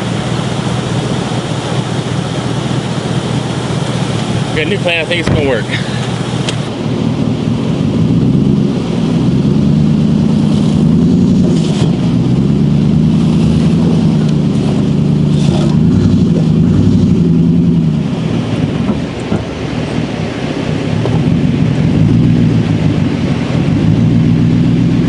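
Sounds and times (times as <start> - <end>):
pickup truck engine revving: 0.0 - 25.0.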